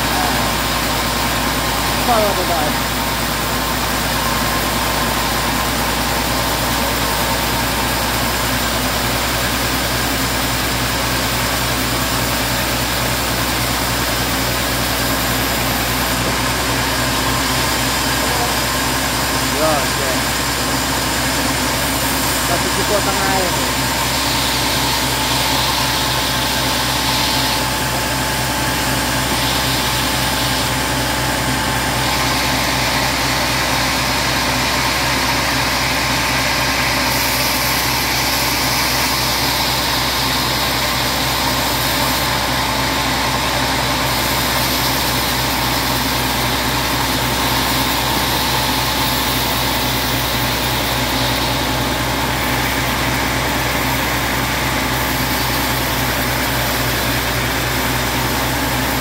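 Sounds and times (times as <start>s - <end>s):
band sawmill sawing log: 0.0s - 59.0s.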